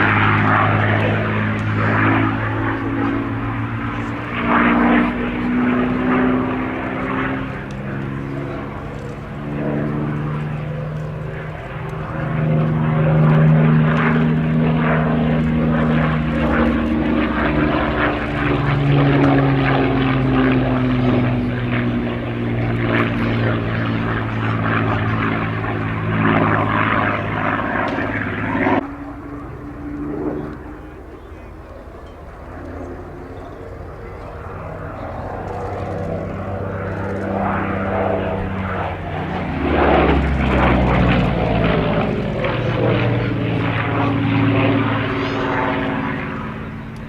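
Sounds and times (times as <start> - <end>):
propeller plane engine overhead: 0.0 - 47.0.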